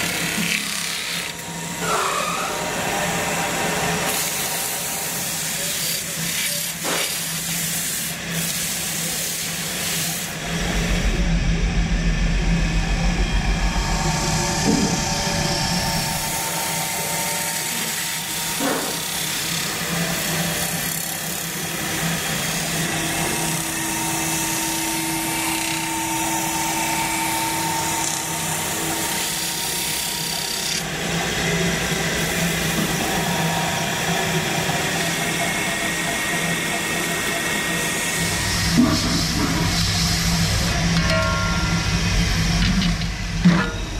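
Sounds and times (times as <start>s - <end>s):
lathe machine hum: 0.0s - 43.9s.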